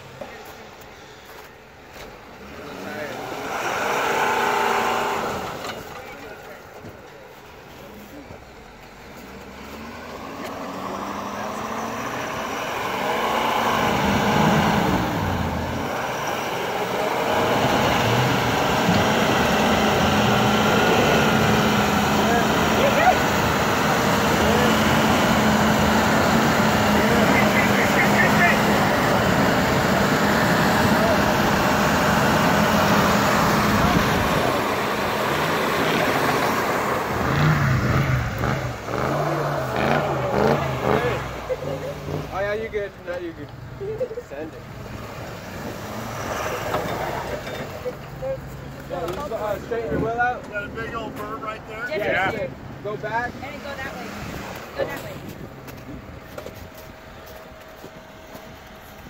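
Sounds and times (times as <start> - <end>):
diesel truck engine under load: 0.0 - 51.4.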